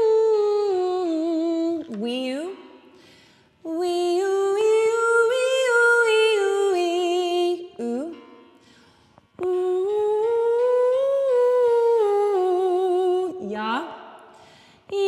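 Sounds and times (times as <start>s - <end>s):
woman singing vocal warm-ups: 0.0s - 15.0s.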